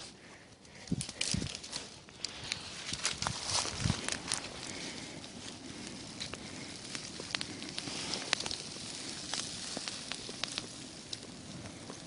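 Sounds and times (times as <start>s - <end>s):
fire crackling and hissing: 0.0s - 12.0s.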